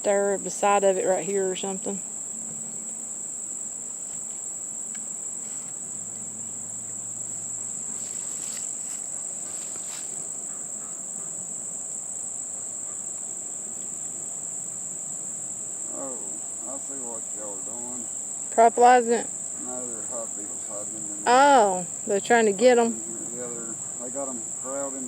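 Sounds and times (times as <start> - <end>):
high-pitched insect chorus: 0.0 - 25.0
honey bees humming: 0.0 - 25.0.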